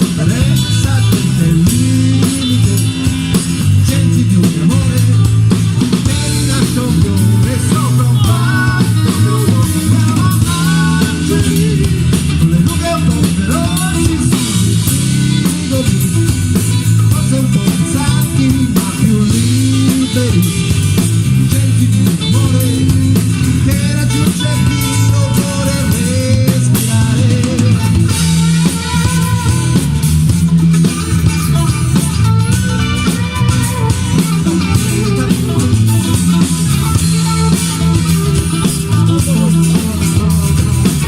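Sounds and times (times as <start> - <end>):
person singing: 0.0 - 30.0, 31.4 - 41.0
bass: 0.0 - 41.0
drum kit: 0.0 - 41.0
guitars: 0.0 - 41.0.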